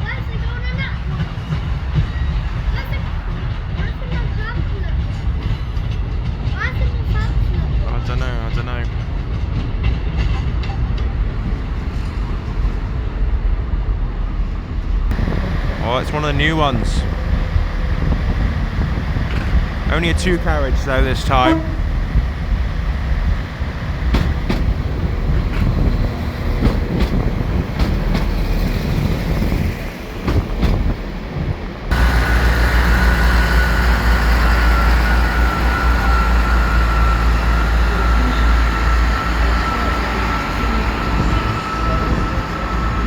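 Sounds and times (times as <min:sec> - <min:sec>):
train low rumble: 0:00.0 - 0:43.0.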